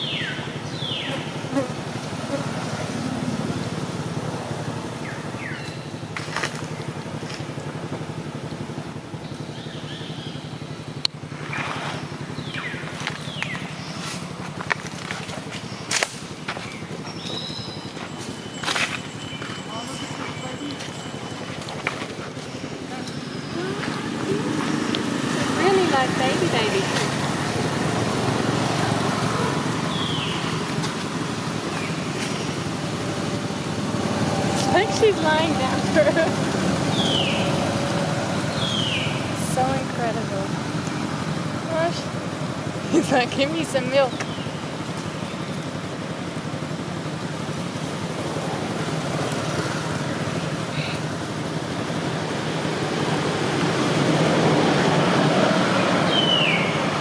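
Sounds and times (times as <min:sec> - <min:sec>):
low mechanical hum: 0:00.0 - 0:54.7.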